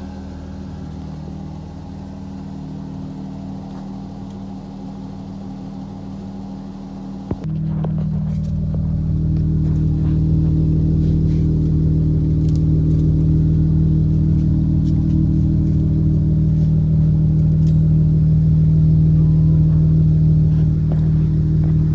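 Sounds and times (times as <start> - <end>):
car engine humming steadily: 0.0 - 21.9.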